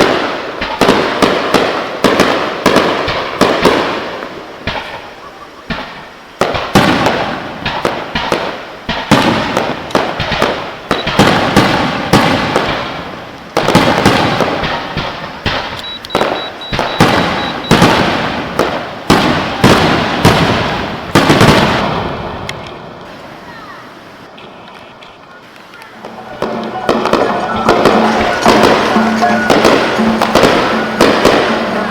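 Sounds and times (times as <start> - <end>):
fireworks booming and crackling: 0.0 - 31.9.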